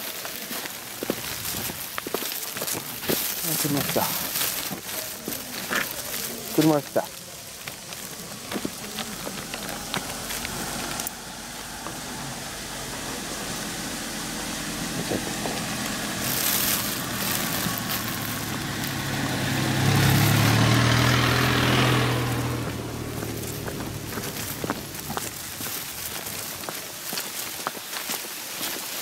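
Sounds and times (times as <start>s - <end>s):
motor engine humming: 2.8s - 27.1s.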